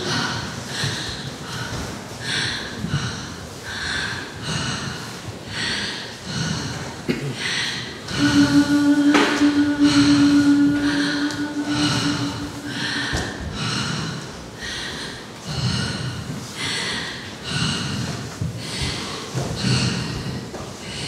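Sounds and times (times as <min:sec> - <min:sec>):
people breathing hard rhythmically: 0:00.0 - 0:21.0.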